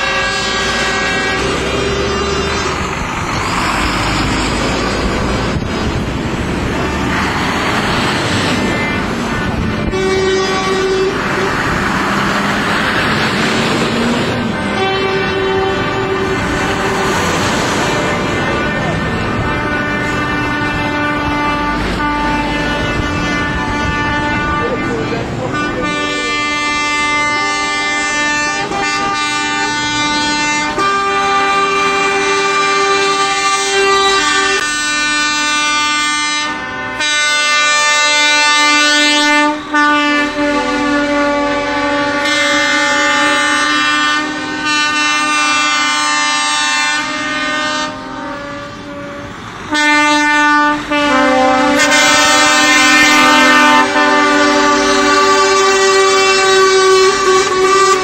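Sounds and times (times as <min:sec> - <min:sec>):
lorry air horns blasting: 0:00.0 - 0:58.0.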